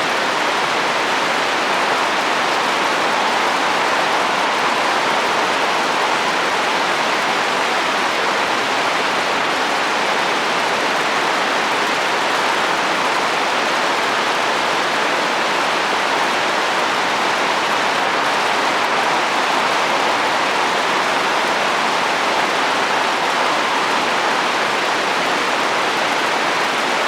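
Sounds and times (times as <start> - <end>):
heavy rain on a roof: 0.0 - 27.0.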